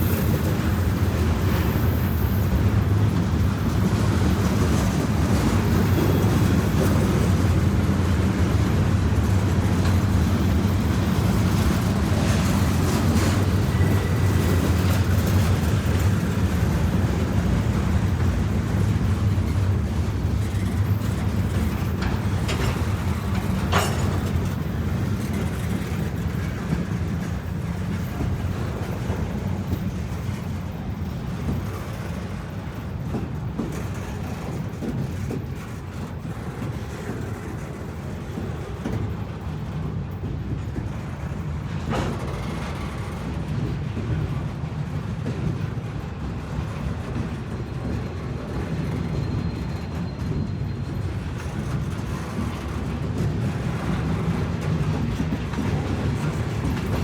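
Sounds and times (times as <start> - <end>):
freight train rumbling past: 0.0 - 57.0
train wheels clanking: 0.0 - 57.0.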